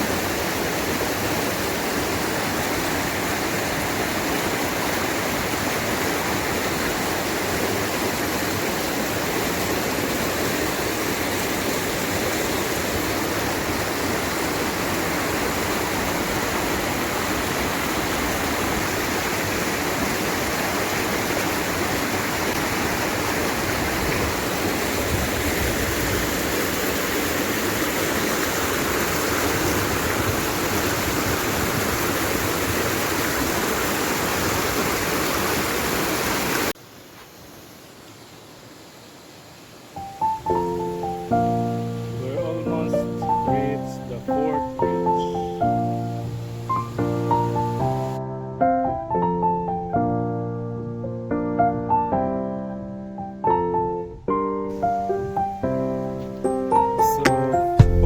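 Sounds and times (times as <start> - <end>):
river water rushing: 0.0 - 48.2, 54.7 - 58.0.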